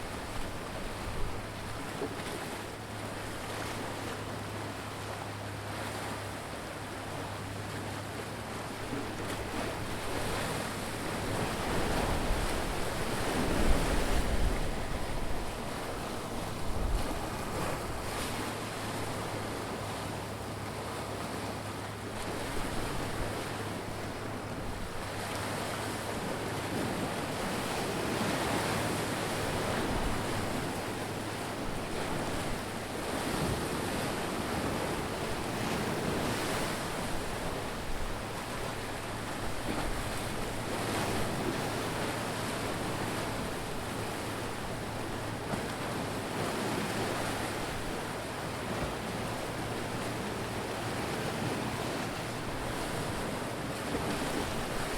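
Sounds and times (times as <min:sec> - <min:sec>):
ocean waves surging: 0:00.0 - 0:54.9.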